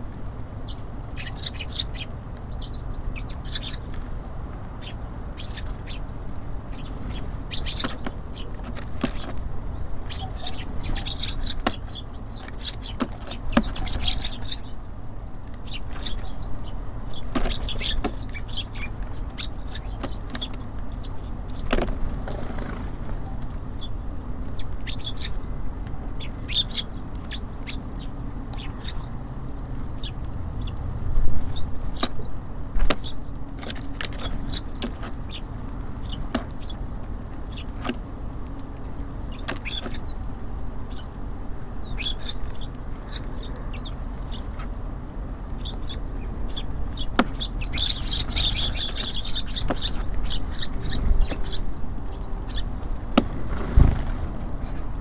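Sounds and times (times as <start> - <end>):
city traffic rumble: 0.0 - 55.0
small birds chirping: 0.0 - 55.0.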